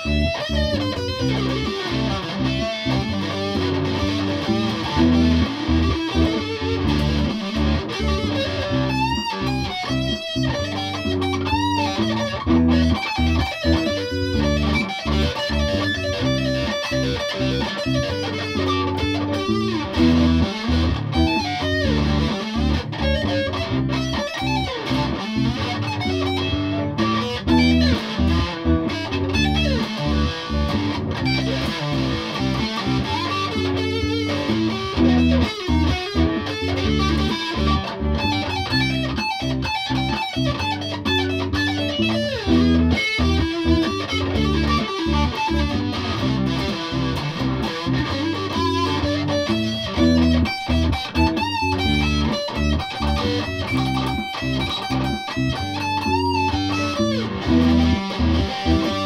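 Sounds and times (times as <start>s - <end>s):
electric guitar jam: 0.0s - 59.0s.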